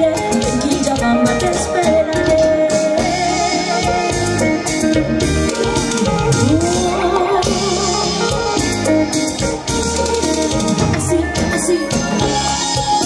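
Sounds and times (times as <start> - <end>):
drum kit and percussion: 0.0 - 13.0
electric guitar lead: 0.0 - 13.0.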